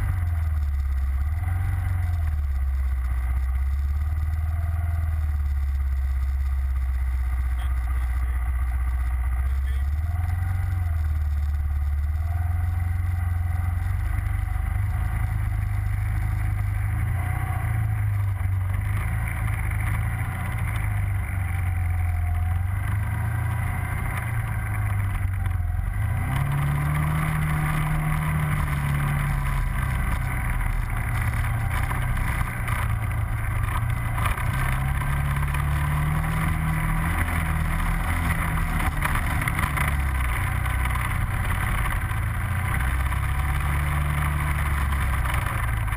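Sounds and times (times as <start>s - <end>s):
atv engine running under load: 0.0s - 45.9s.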